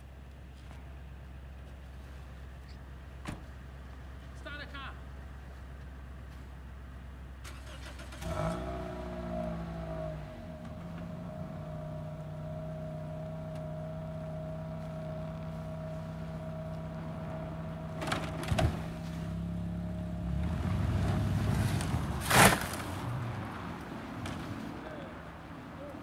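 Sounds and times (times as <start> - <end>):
car engines idling: 0.0 - 26.0
engine and tyre rush: 0.4 - 26.0.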